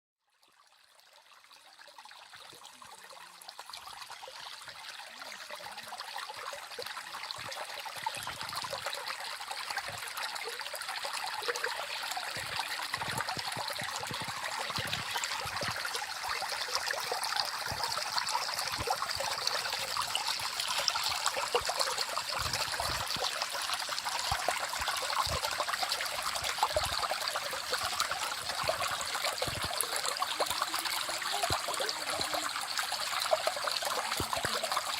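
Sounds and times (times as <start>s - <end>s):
stream trickling and babbling: 0.2s - 34.9s.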